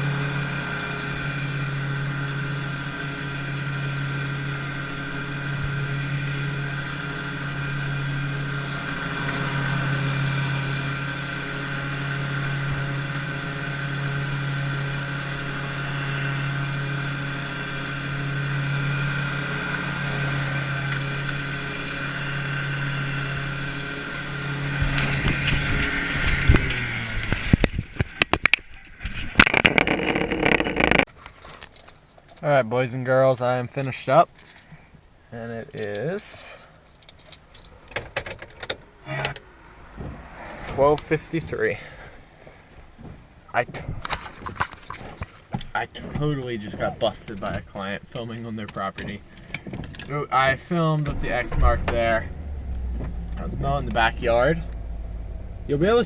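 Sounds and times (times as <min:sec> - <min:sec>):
engine running steadily: 0:00.0 - 0:31.1, 0:34.4 - 0:56.0.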